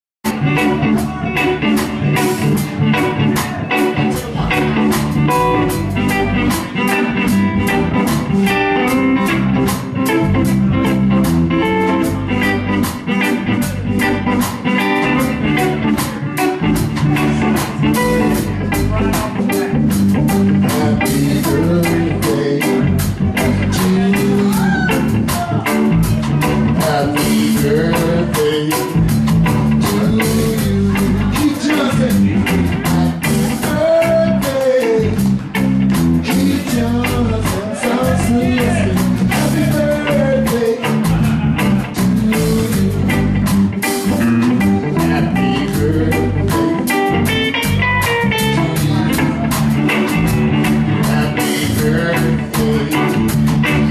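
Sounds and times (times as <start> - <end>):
bass guitar: 0.2 - 53.9
drum kit: 0.2 - 53.9
electric guitar: 0.2 - 53.9.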